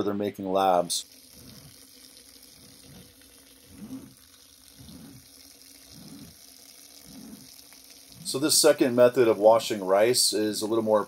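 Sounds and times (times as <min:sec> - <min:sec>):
shower water running: 0:00.6 - 0:11.0.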